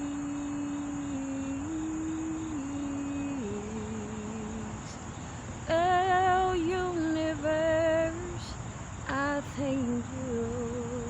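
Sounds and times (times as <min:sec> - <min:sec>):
woman singing wordlessly: 0:00.0 - 0:11.0.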